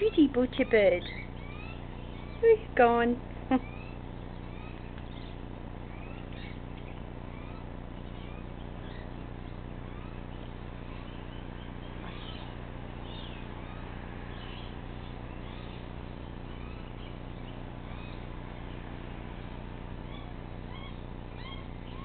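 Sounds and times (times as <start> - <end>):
faint bird chirps and whistles: 0.0 - 2.6, 3.5 - 22.0
steady low hum: 0.0 - 22.0.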